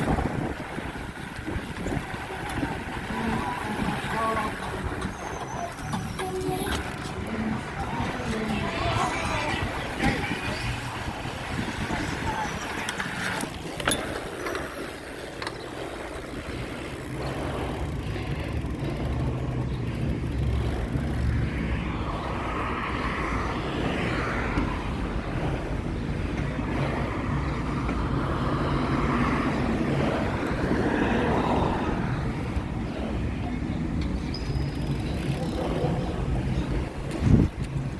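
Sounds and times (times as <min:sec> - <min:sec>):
road noise: 0:00.0 - 0:37.9
vehicle engine humming: 0:00.0 - 0:37.9.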